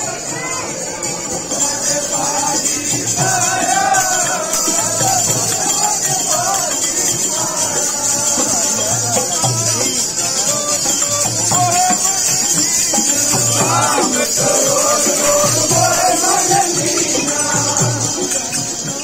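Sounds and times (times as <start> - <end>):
men singing a hymn: 0.0 - 19.0
metallic jingling percussion: 0.0 - 19.0
hand drum beating: 1.3 - 19.0.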